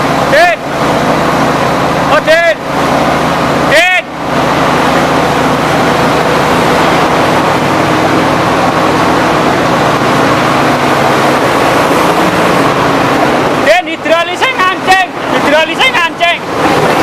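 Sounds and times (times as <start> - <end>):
crushing mill machinery running: 0.0 - 17.0.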